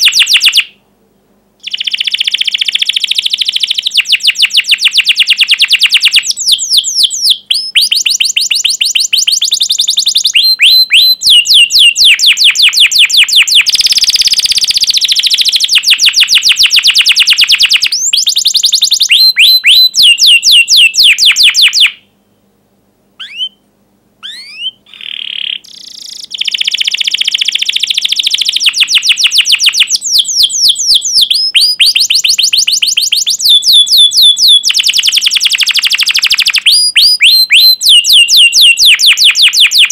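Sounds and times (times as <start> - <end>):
canary singing trills: 0.0 - 0.8, 1.6 - 22.2, 23.2 - 23.6, 24.2 - 39.9.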